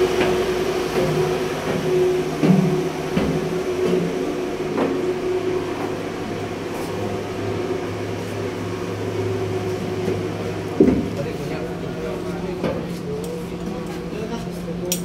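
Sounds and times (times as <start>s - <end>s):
machinery humming drone: 0.0s - 15.0s.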